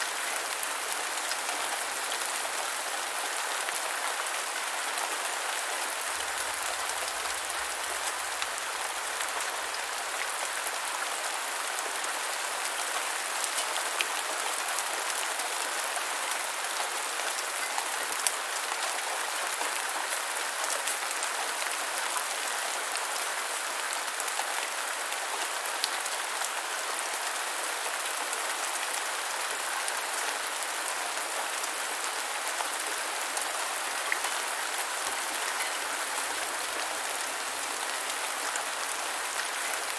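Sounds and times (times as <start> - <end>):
steady light rain: 0.0 - 39.9.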